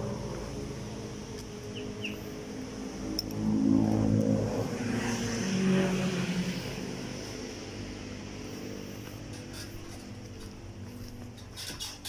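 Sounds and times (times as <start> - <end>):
motorboat engine hum: 0.0 - 11.6.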